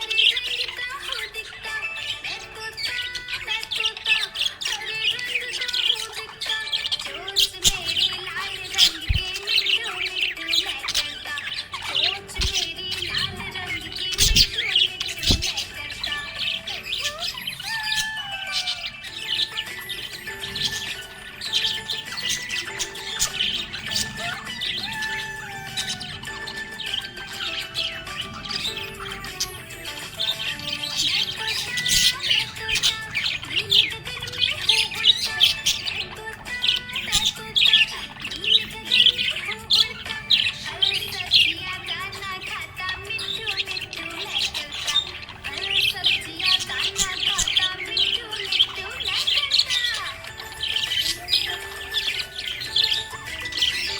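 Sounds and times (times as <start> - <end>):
background music: 0.0 - 53.9
parrots chirping and squawking: 0.0 - 53.9.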